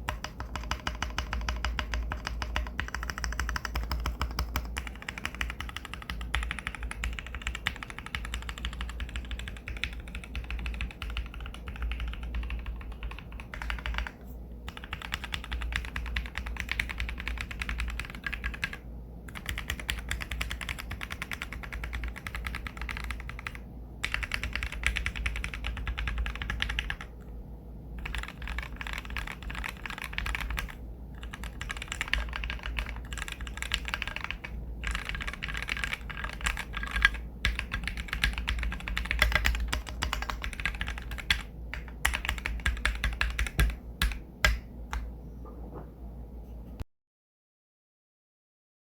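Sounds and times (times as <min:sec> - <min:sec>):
fast mechanical keyboard typing: 0:00.0 - 0:27.3, 0:28.0 - 0:45.1.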